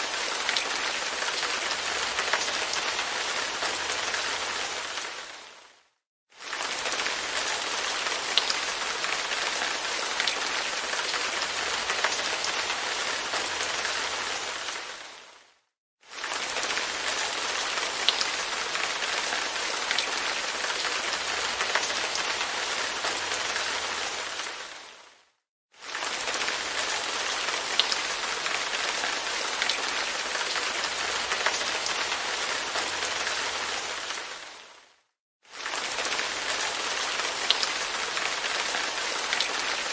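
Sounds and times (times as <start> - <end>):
rain pattering on a window: 0.1 - 5.6, 6.4 - 15.4, 16.1 - 25.2, 25.8 - 34.8, 35.5 - 39.9.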